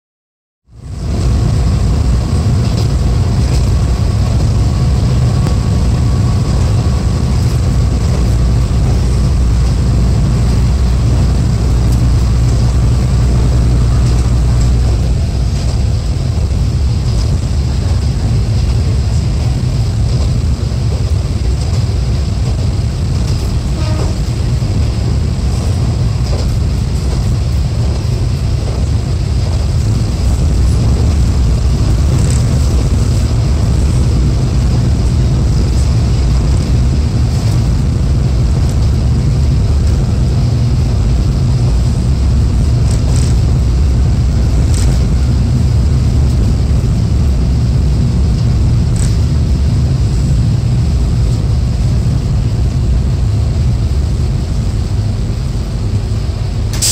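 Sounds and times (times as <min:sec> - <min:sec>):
diesel engine drone: 0:00.6 - 0:56.9
wheels rumbling on rails: 0:00.6 - 0:56.9.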